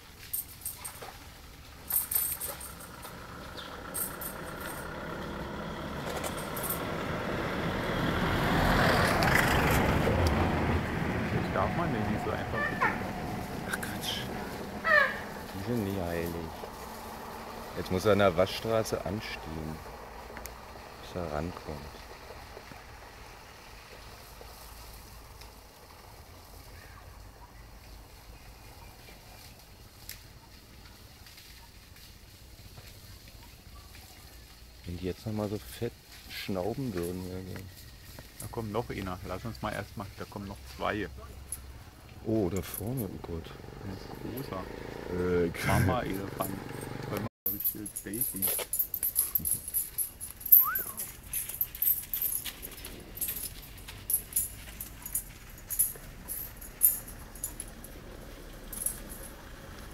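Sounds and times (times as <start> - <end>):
pickup truck passing: 1.9 - 29.6, 36.5 - 48.2, 48.9 - 59.9.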